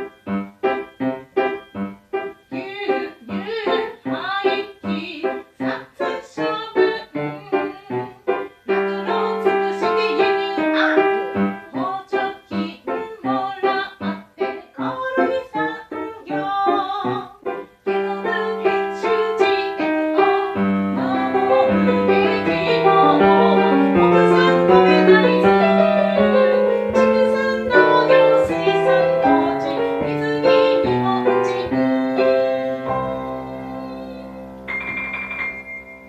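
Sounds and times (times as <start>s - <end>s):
piano bass line: 0.0s - 36.0s
piano melody: 0.0s - 36.0s.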